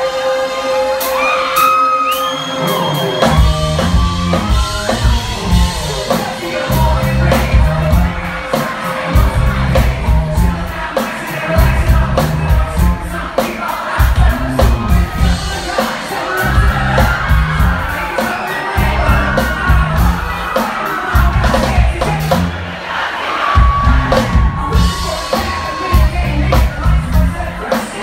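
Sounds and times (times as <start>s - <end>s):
person singing: 0.0s - 22.5s, 23.4s - 28.0s
crowd whooping and shouting: 0.0s - 28.0s
live pop-rock band: 0.0s - 28.0s.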